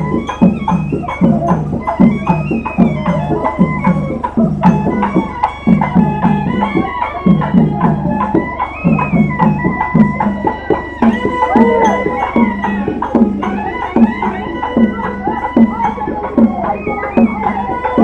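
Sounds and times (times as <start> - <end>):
drums beating: 0.0 - 18.0
wind instrument melody: 0.0 - 18.0.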